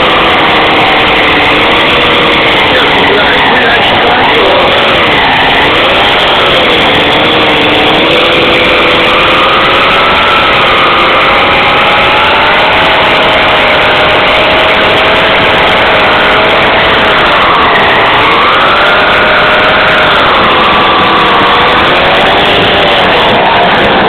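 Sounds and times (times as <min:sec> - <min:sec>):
chainsaw engine running: 0:00.0 - 0:24.0.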